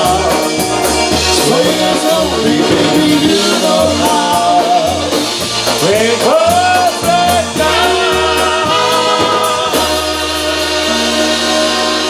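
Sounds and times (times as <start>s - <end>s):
live polka band playing: 0.0s - 12.0s
person singing: 0.0s - 12.0s.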